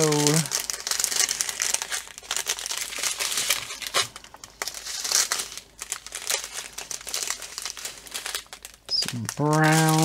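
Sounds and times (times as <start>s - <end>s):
thin plastic crinkling: 0.0s - 10.0s.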